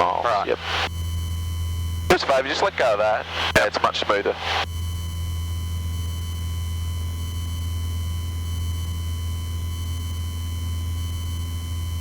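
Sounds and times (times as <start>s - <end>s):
faint electrical whine: 0.0s - 12.0s.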